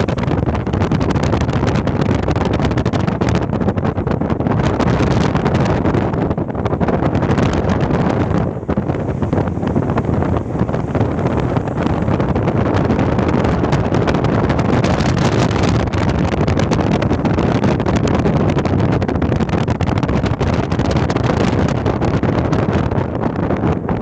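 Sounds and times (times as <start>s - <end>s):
vehicle rumble: 0.0s - 24.0s
wind buffeting microphone: 0.0s - 24.0s.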